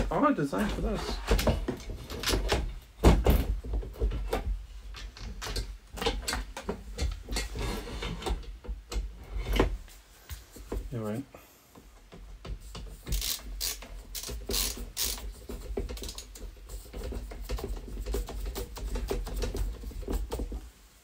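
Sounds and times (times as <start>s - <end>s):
computer parts clicking and knocking: 0.6s - 9.1s, 12.1s - 20.6s.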